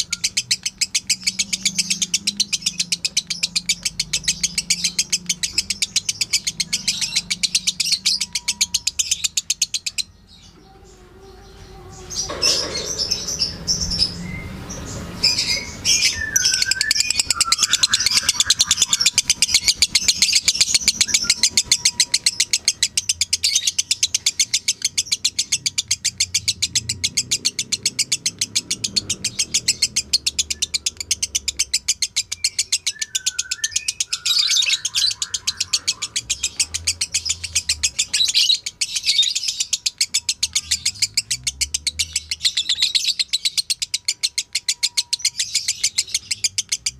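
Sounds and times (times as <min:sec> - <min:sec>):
bird chattering song: 0:00.0 - 0:46.9.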